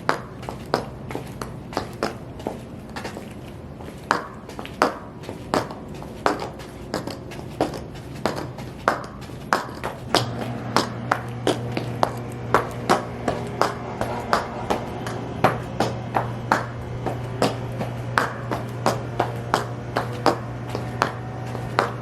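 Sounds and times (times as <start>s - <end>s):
high heels stomping: 0.0s - 22.0s
low steady hum: 0.0s - 22.0s.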